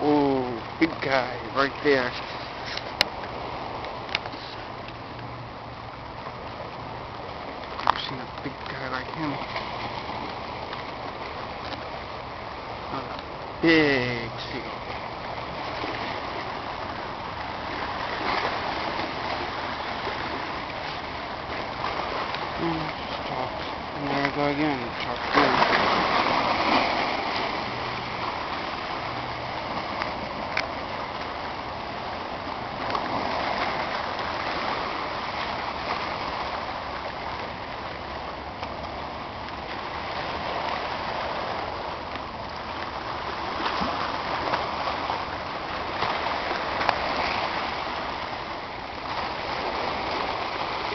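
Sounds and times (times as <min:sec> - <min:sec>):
waves splashing over boulders: 0:00.0 - 0:50.9.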